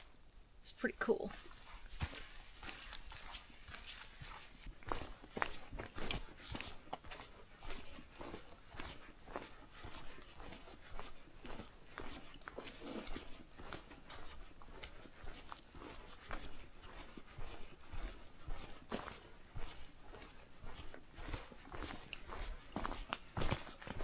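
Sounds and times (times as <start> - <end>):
footsteps crunching on forest trail: 1.3 - 24.0.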